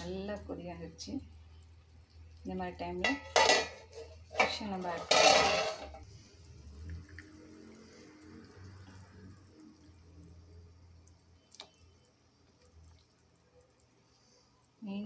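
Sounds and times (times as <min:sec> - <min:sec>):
curry boiling in a pan: 0:00.0 - 0:15.0.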